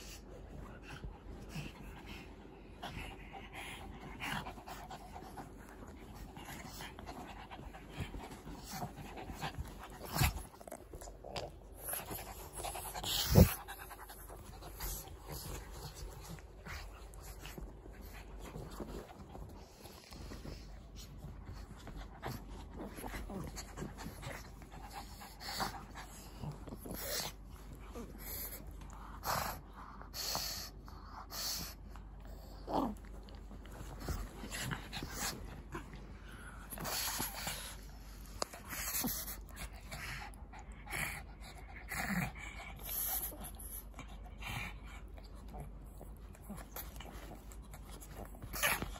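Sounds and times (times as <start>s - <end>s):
small dogs panting: 0.0s - 48.9s.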